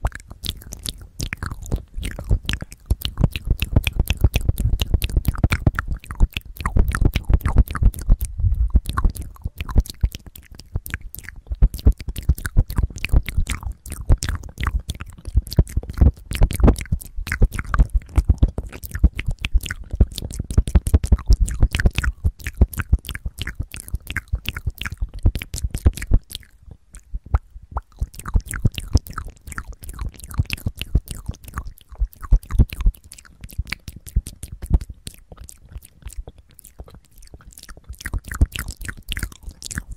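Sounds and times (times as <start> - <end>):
lip smacks: 0.0 - 39.9
tongue clicks: 0.0 - 39.9.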